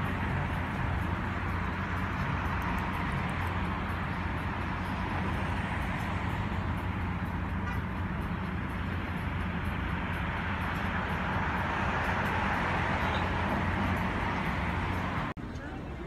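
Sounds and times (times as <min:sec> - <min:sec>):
urban traffic and engine noise: 0:00.0 - 0:16.0.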